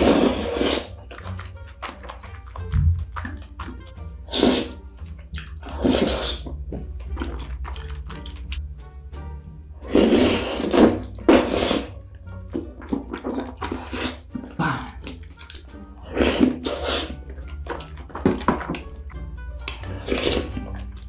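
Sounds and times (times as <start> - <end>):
wet slurping: 0.0 - 8.7, 9.8 - 21.0
soft background music: 0.0 - 21.0.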